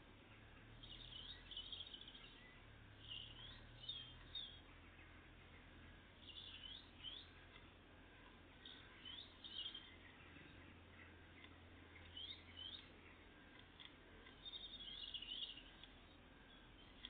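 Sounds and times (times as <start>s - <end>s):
faint low hum: 0.0s - 17.0s
small songbirds chirping: 0.0s - 17.0s.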